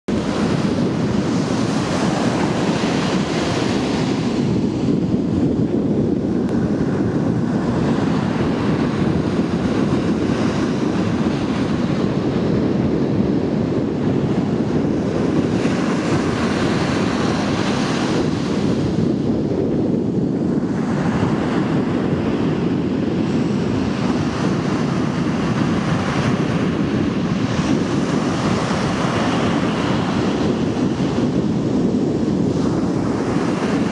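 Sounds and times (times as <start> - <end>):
wind rumble on microphone: 0.0 - 33.9
ocean waves breaking: 0.1 - 33.9.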